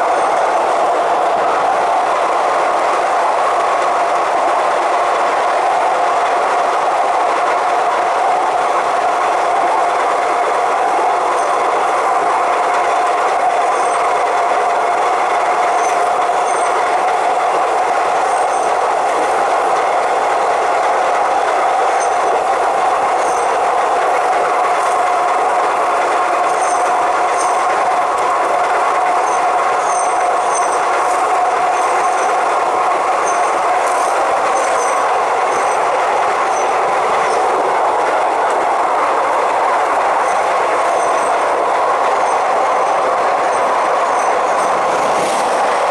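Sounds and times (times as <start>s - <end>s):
train running at speed: 0.0s - 45.9s.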